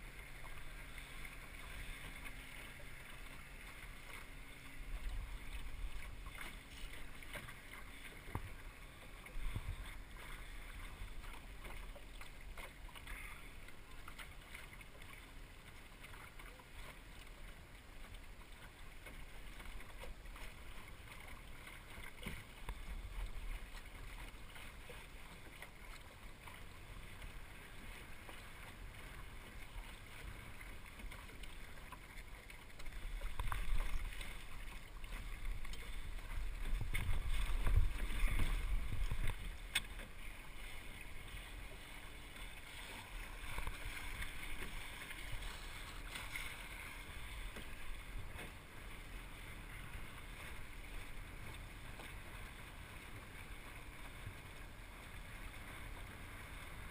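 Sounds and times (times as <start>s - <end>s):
water lapping along hull: 0.0s - 56.9s.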